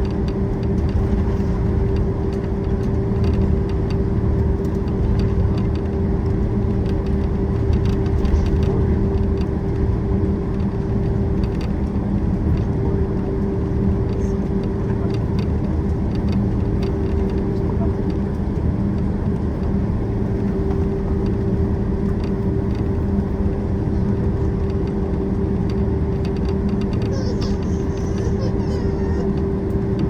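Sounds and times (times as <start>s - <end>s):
aircraft engine hum: 0.0s - 30.0s.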